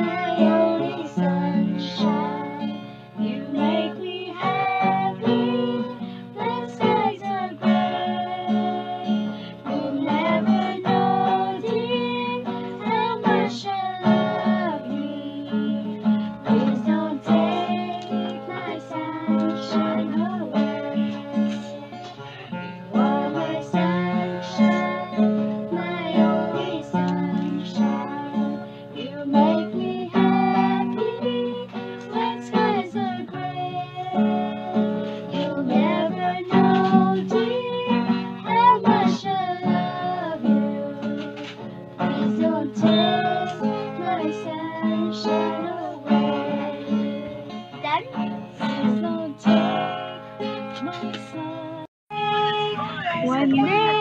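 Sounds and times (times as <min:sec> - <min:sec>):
strummed acoustic guitar: 0:00.0 - 0:54.0
woman and girl singing: 0:00.0 - 0:54.0.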